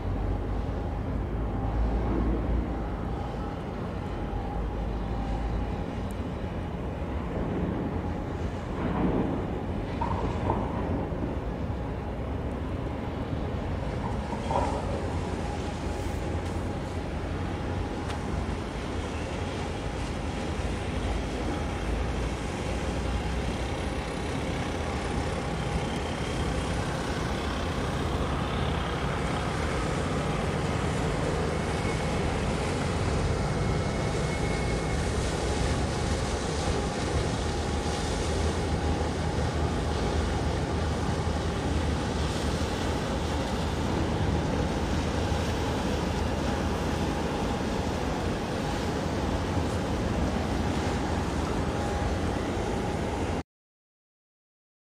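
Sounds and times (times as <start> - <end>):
distant ship engines: 0.0 - 53.4
water: 0.0 - 53.4
wind: 0.0 - 53.4.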